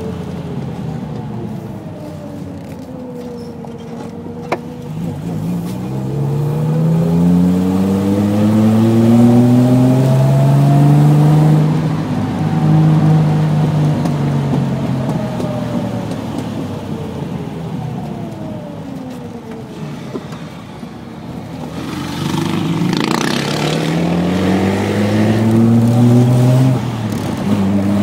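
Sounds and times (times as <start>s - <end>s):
car engine accelerating and slowing: 0.0s - 28.0s.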